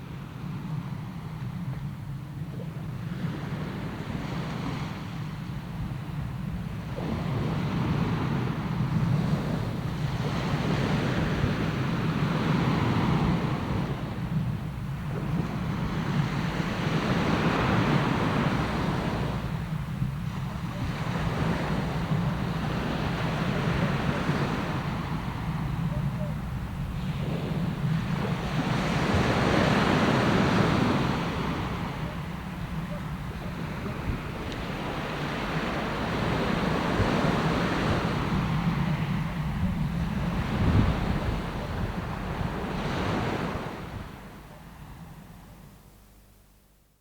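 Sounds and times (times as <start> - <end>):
waves breaking and washing in: 0.0 - 46.4.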